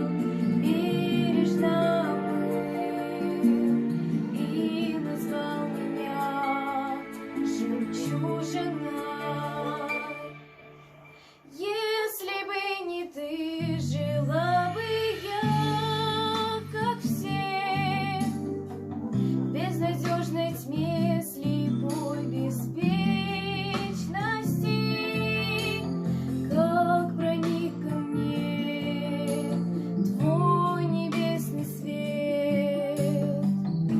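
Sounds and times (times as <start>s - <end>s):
young female voice singing: 0.0s - 10.3s, 11.5s - 18.5s, 19.5s - 29.6s, 30.2s - 33.6s
instrumental accompaniment: 0.0s - 11.6s, 14.0s - 33.9s.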